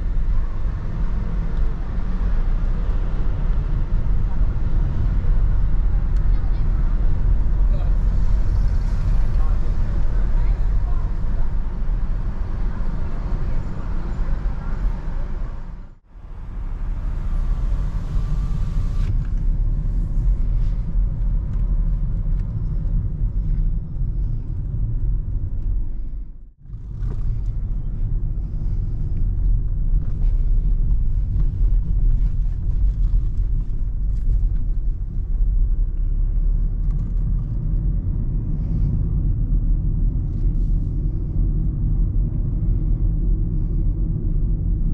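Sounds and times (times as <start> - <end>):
car engine running: 0.0 - 44.4
road noise inside car: 0.0 - 44.9.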